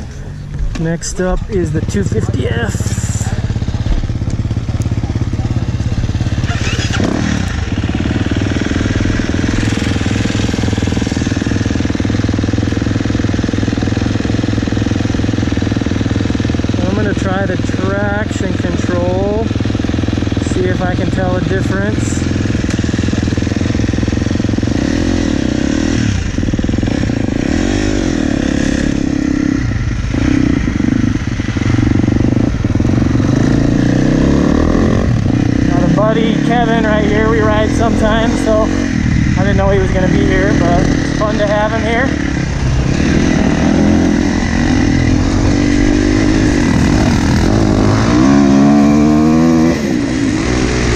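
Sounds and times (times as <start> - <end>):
dirt bike engine running: 0.0 - 50.9.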